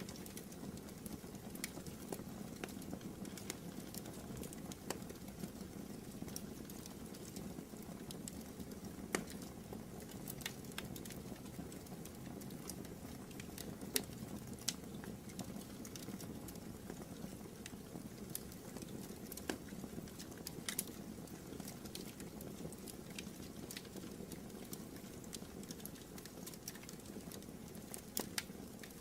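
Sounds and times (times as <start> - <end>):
fire crackling and popping: 0.0 - 29.0
low rustle of flames: 0.0 - 29.0.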